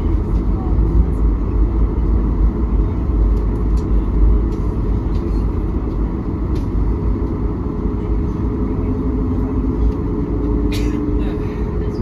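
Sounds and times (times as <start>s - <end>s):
jet airliner cabin rumble: 0.0s - 12.0s.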